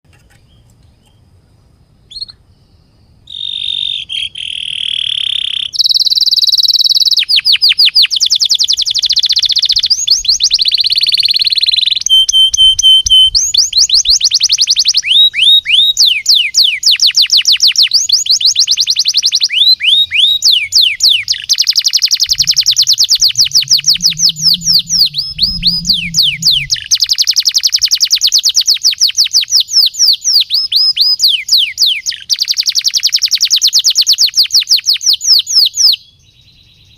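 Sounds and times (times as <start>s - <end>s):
bird chirp: 0.1s - 36.9s
canary singing trills: 2.0s - 36.9s.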